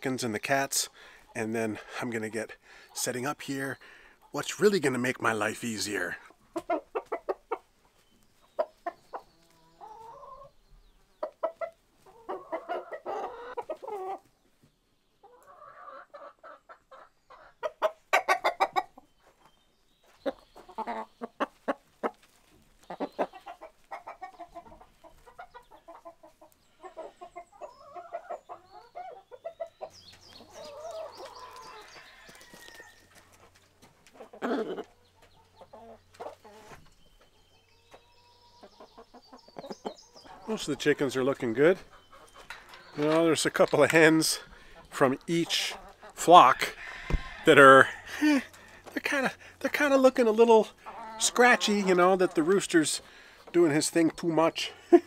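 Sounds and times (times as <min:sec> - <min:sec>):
chickens clucking: 0:00.2 - 0:55.0.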